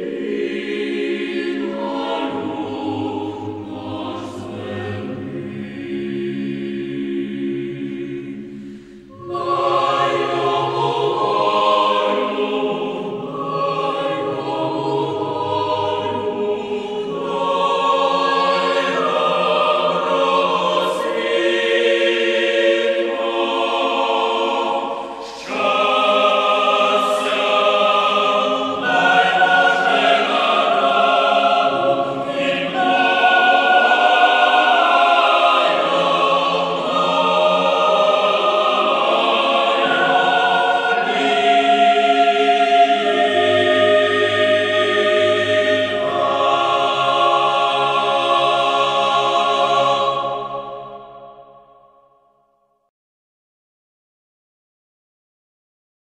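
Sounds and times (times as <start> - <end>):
choir singing slow music: 0.0 - 52.3.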